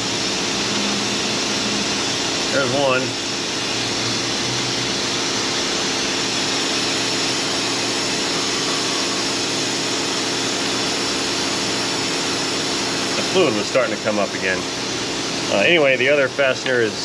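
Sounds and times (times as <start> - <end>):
coolant evacuator whirring hum: 0.0 - 17.0.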